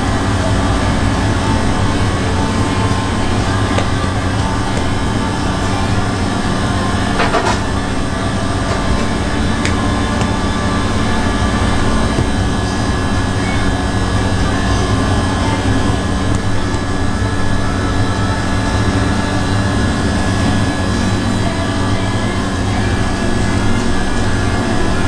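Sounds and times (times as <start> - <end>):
loud mechanical drone: 0.0 - 25.0.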